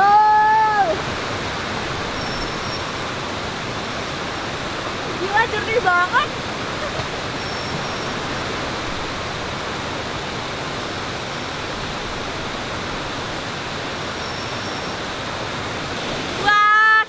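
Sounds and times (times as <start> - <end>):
stream and waterfall rushing: 0.0 - 17.0.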